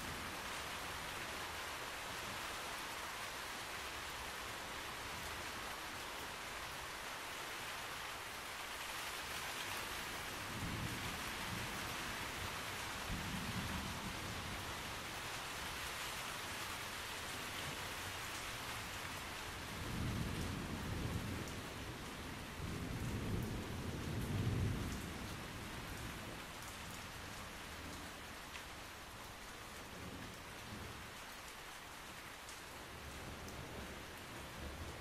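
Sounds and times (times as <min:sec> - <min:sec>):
rain pattering through trees: 0:00.0 - 0:35.0.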